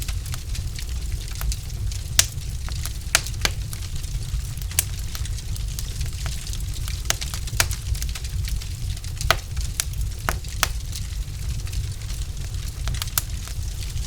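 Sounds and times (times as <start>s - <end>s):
log fire crackling: 0.0s - 14.0s
low rumble of burning: 0.0s - 14.0s.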